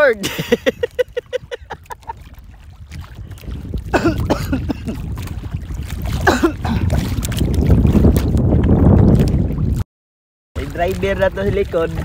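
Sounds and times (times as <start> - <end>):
water splashing around boat: 0.0 - 9.8, 10.6 - 12.0
wind rumbling on microphone: 0.0 - 9.8, 10.6 - 12.0.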